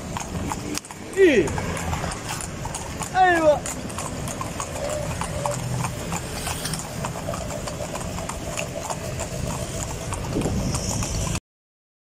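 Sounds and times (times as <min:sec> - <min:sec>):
horse hooves clip-clopping on asphalt: 0:00.0 - 0:11.4.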